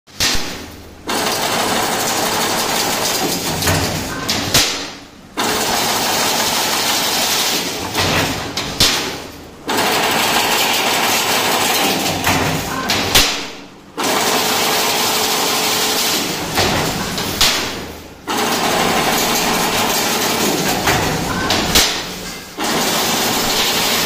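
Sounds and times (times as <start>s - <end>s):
loud machine knock: 0.1s - 24.0s.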